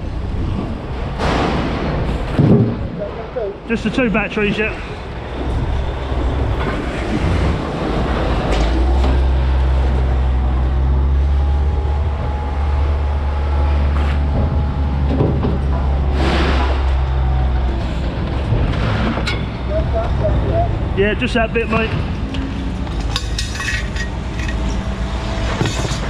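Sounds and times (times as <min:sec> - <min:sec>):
large engine humming: 0:00.0 - 0:26.0.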